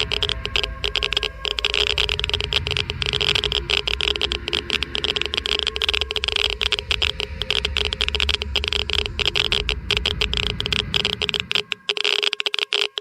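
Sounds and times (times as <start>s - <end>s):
low rumble and hum: 0.0s - 12.1s
geiger counter clicking: 0.0s - 13.0s.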